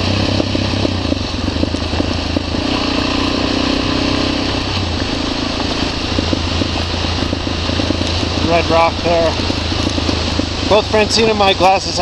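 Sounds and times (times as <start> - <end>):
motorcycle engine running: 0.0 - 12.0
rushing noise: 0.0 - 12.0.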